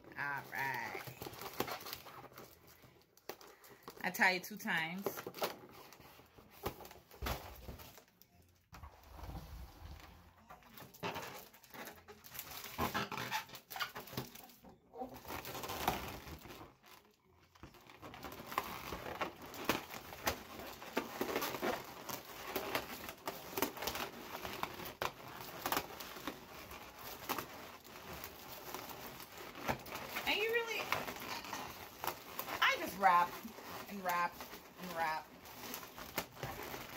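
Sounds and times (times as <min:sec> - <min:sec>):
balloons rustling and crinkling: 0:00.0 - 0:36.9.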